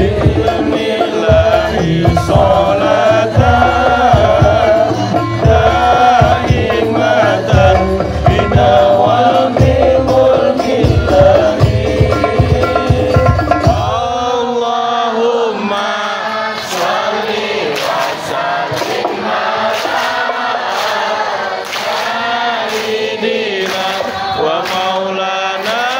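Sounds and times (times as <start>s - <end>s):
frame drums: 0.0s - 14.3s, 17.9s - 24.9s
group chanting: 0.0s - 25.9s.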